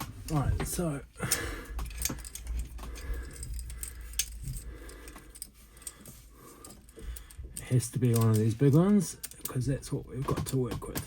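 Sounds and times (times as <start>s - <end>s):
metal hose clamps clinking: 0.2s - 11.0s.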